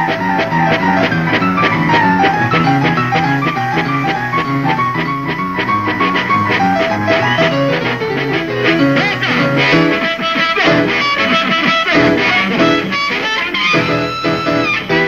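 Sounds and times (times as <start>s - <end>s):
amplified harmonica: 0.0s - 15.0s
drums: 0.0s - 15.0s
electric guitar: 0.0s - 15.0s
piano: 0.0s - 15.0s.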